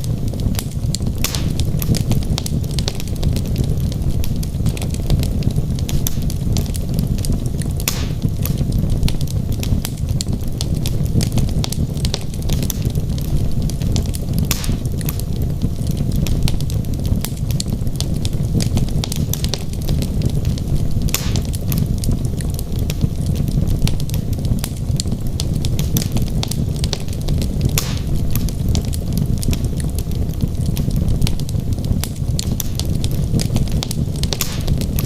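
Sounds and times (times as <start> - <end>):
fire crackling and popping: 0.0 - 35.0
low rumble of fire: 0.0 - 35.0
loud wood snaps: 0.6 - 15.2, 18.6 - 24.9, 25.5 - 35.0.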